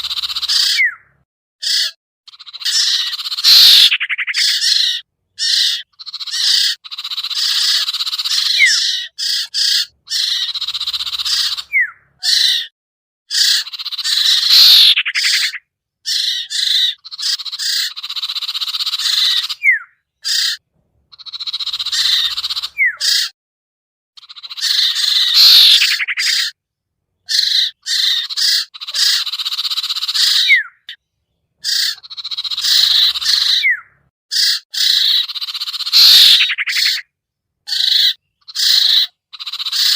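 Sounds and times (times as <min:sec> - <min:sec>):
bird chattering and whistling: 0:00.0 - 0:12.7, 0:13.3 - 0:23.4, 0:24.2 - 0:26.6, 0:27.2 - 0:31.0, 0:31.6 - 0:37.1, 0:37.7 - 0:39.9.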